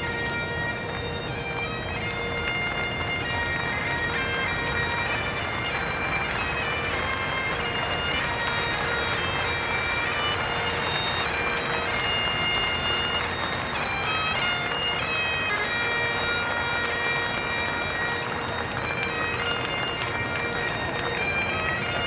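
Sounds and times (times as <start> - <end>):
bagpipe playing a tune: 0.0 - 22.0.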